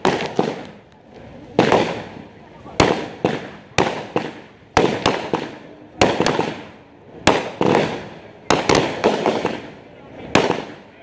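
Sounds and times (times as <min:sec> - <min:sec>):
fireworks bangs and crackle: 0:00.0 - 0:11.0.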